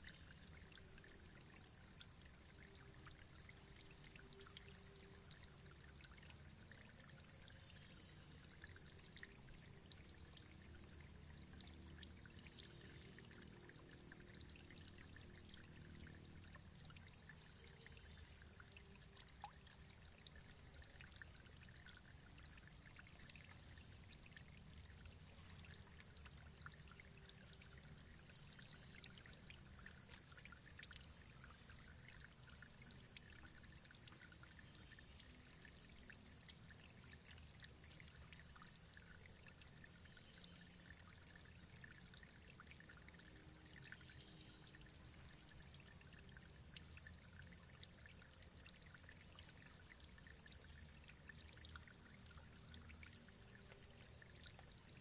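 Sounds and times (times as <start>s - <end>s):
running water trickling: 0.0s - 55.0s.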